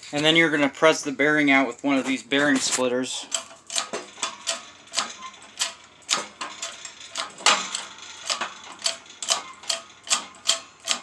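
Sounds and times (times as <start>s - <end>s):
sharp metallic clicks and knocks: 1.7s - 11.0s.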